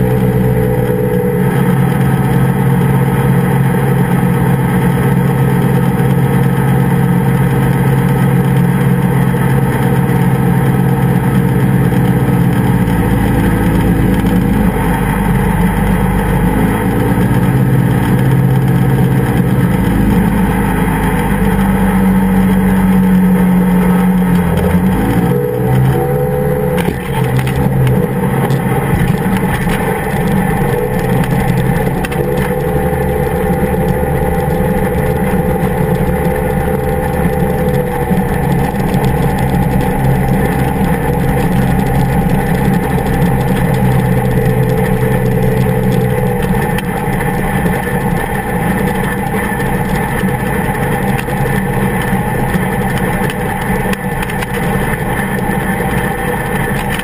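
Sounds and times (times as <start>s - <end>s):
engine and propeller running: 0.0s - 57.0s.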